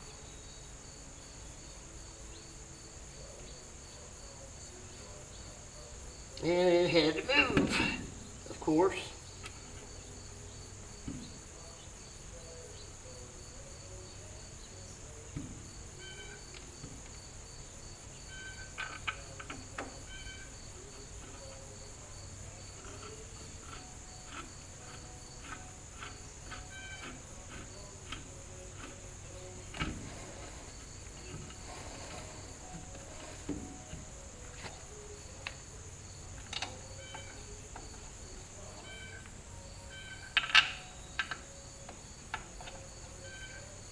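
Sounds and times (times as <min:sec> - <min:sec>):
constant high drone: 0:00.0 - 0:43.9
insects chirping in pulses: 0:00.0 - 0:43.9.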